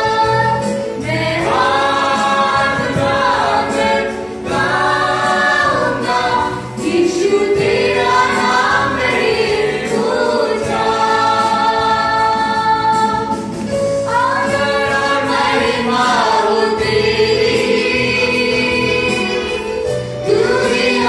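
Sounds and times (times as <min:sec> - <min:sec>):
group singing gospel song: 0:00.0 - 0:21.0.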